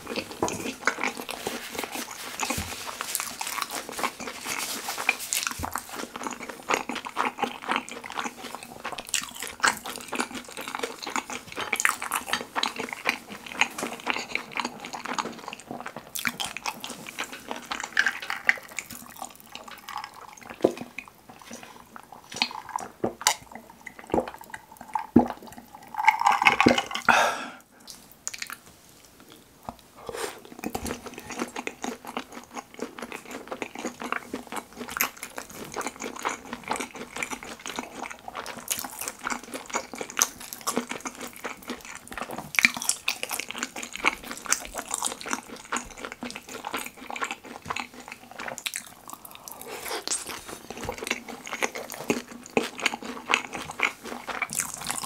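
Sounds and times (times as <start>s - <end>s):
wet chewing with mouth clicks: 0.0s - 27.2s, 27.8s - 55.0s.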